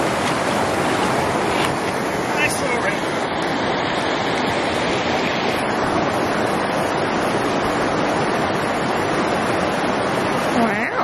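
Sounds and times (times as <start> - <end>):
stream rushing over stones: 0.0 - 11.0.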